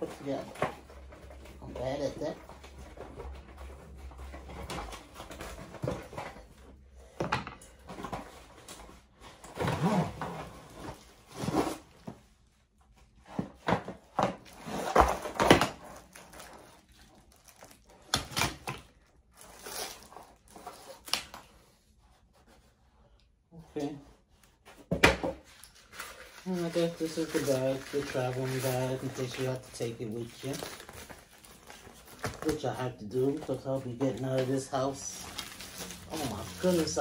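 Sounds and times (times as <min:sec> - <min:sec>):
plastic wrap and cardboard rustling: 0:00.0 - 0:06.8, 0:07.7 - 0:22.8, 0:23.8 - 0:37.0.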